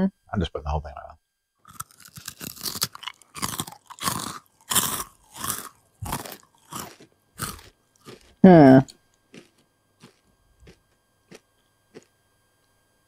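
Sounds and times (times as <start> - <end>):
person chewing chocolate: 1.6 - 12.1.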